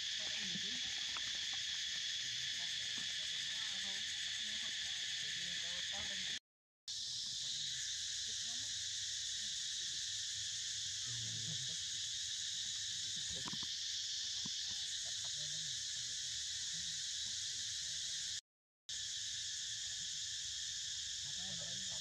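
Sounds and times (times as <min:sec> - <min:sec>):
forest insects shrilling: 0:00.0 - 0:22.0.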